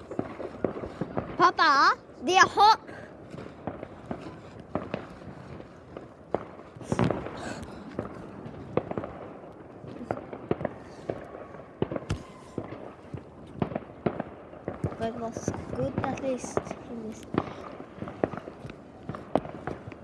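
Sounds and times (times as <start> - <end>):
fireworks bangs and cracks: 0.0 - 20.0.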